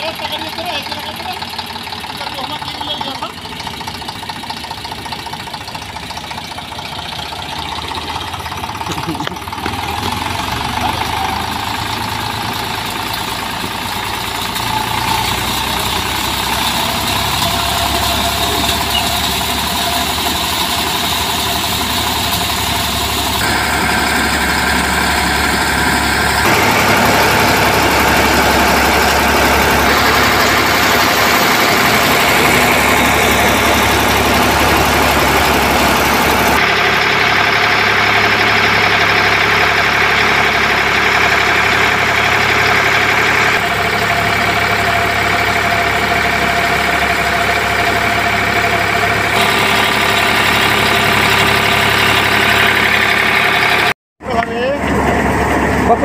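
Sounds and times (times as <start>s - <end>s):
tractor diesel engine running: 0.0s - 56.0s
threshing machine drum turning: 7.4s - 53.9s.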